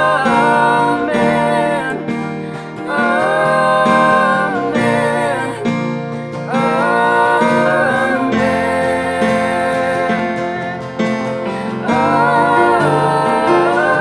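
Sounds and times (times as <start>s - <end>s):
acoustic guitar strumming: 0.0s - 14.0s
keyboard chords: 0.0s - 14.0s.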